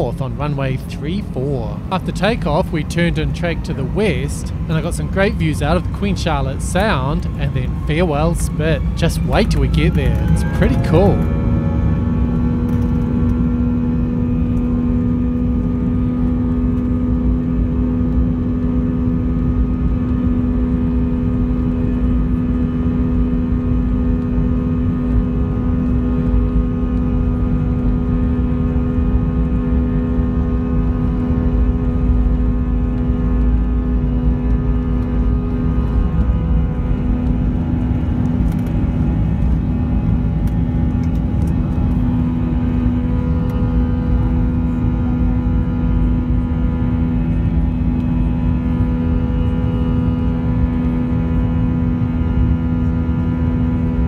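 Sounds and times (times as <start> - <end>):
heavy low rumble: 0.0 - 54.0
jet engine drone: 0.0 - 54.0.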